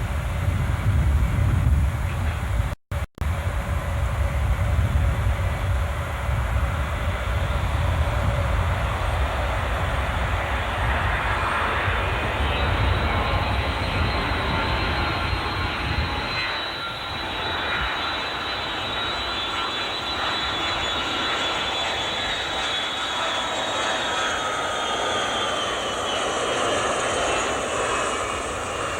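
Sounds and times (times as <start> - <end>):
jet engine rumble: 0.0 - 28.9
jet engine whine: 0.0 - 28.9.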